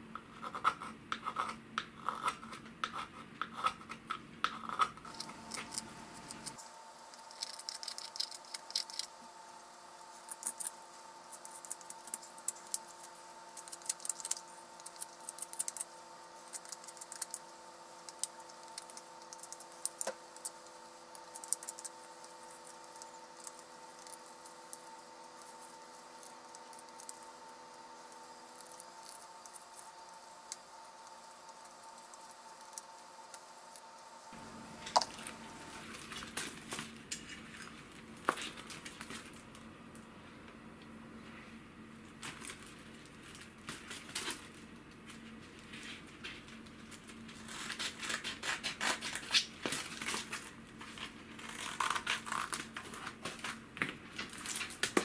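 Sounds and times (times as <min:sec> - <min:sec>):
steady low hum: 0:00.0 - 0:55.0
knife shaving wood: 0:00.3 - 0:39.4, 0:46.9 - 0:53.6.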